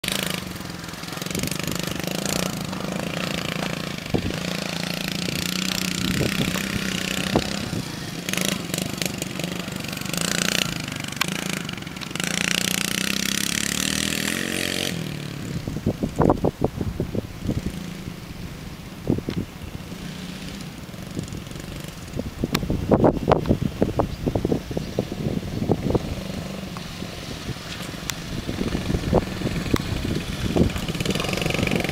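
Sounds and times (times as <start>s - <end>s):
dirt bike engine revving: 0.0s - 16.5s, 17.3s - 18.7s, 19.7s - 23.2s, 24.4s - 31.9s.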